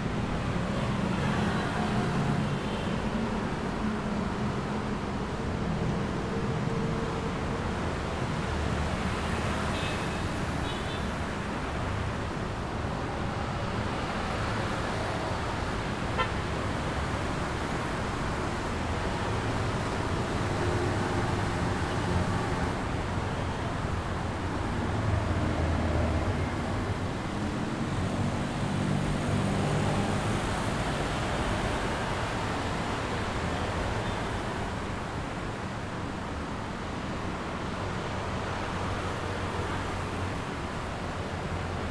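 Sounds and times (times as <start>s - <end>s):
cars and motorbikes passing: 0.0s - 41.9s.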